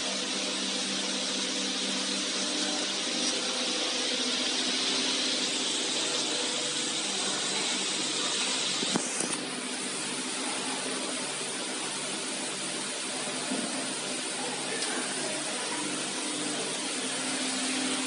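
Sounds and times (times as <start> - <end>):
machine humming and hissing: 0.0 - 18.0.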